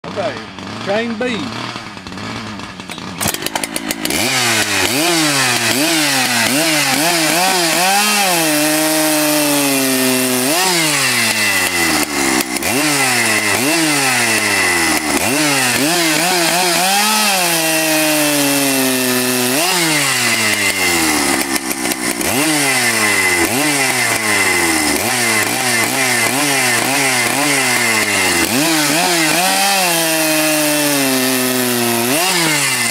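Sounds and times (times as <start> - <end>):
chainsaw cutting wood: 0.0 - 32.9.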